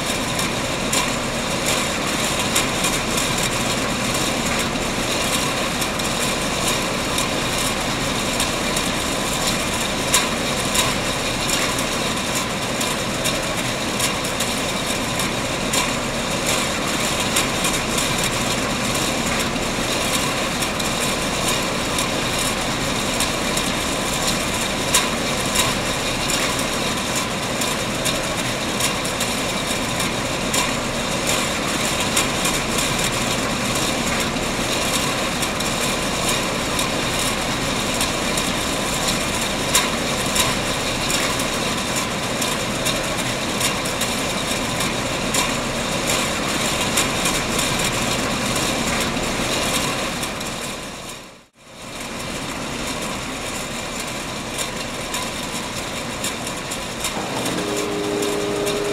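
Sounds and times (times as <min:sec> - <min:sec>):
can-filling machine running: 0:00.0 - 0:43.2, 0:54.6 - 0:58.9.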